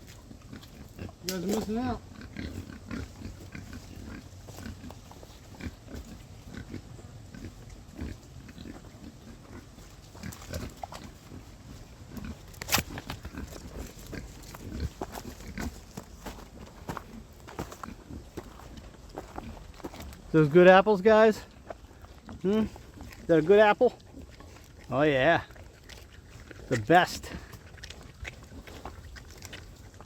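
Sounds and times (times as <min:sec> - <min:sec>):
pigs chewing apples: 0:00.0 - 0:30.0.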